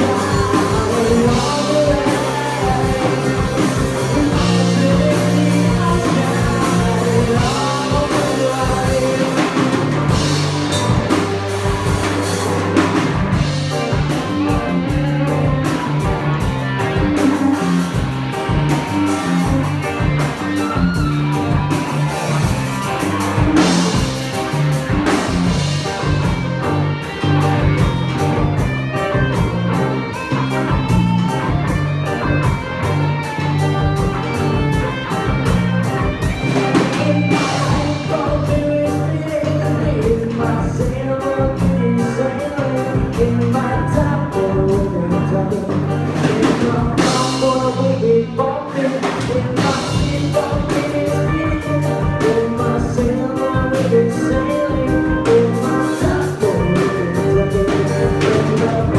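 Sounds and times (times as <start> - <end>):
person singing: 0.0 - 31.6, 32.2 - 58.9
drum kit: 0.0 - 58.9
electric guitar: 0.0 - 58.9
rock song: 0.0 - 58.9.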